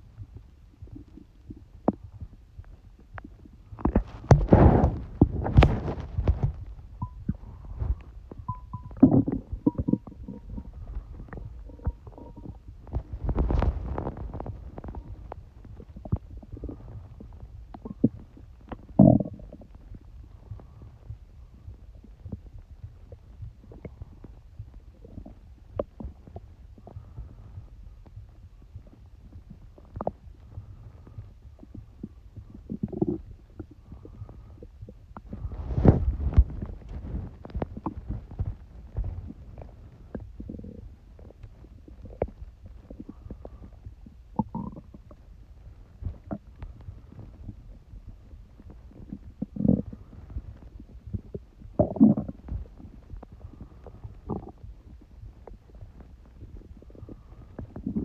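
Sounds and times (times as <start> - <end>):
stomach gurgling and rumbling: 0.0 - 58.0.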